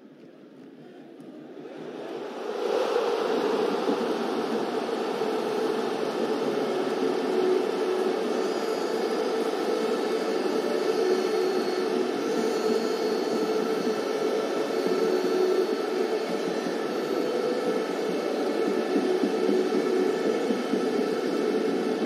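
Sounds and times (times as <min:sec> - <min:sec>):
faint hum: 0:00.0 - 0:22.0
steady rushing noise: 0:01.4 - 0:22.0.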